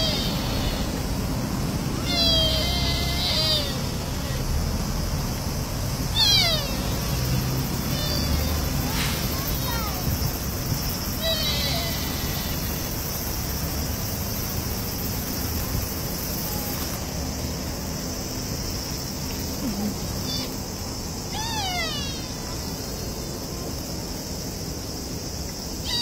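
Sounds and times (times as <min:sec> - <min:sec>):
constant high insect drone: 0:00.0 - 0:26.0.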